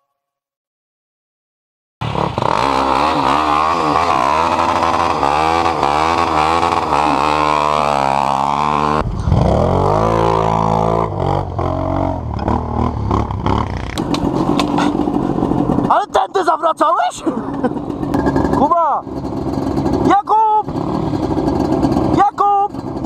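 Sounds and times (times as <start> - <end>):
quad bike engine revving: 2.0 - 23.0
engine pitch rising and falling: 2.2 - 22.3.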